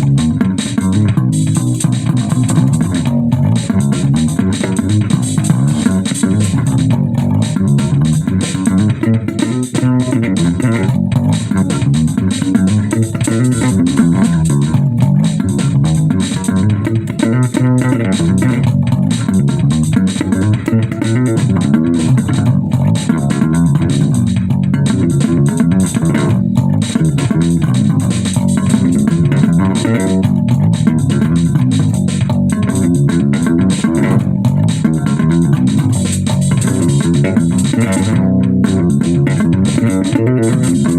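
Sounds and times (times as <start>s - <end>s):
bass guitar playing: 0.0s - 40.9s
drums with cymbal wash: 0.0s - 40.9s.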